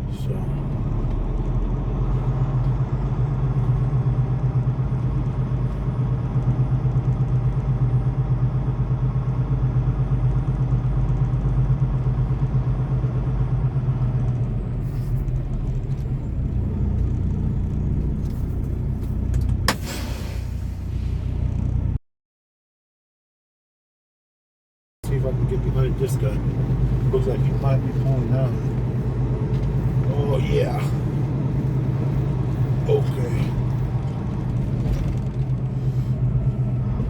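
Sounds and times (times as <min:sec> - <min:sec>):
truck diesel engine idling: 0:00.0 - 0:21.4, 0:25.0 - 0:37.0.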